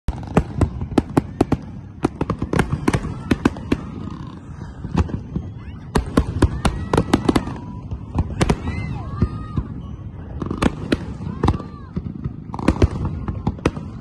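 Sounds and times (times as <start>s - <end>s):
fireworks bangs: 0.1s - 14.0s.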